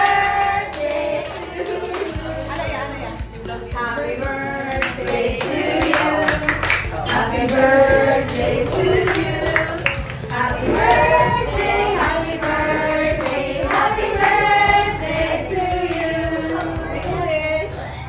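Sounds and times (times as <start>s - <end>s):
women singing in chorus: 0.0s - 18.0s.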